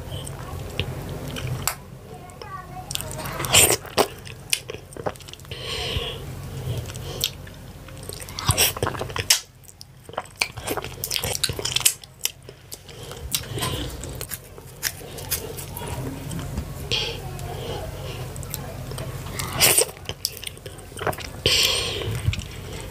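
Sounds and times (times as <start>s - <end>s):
wet chewing: 0.1s - 1.8s, 2.8s - 22.9s.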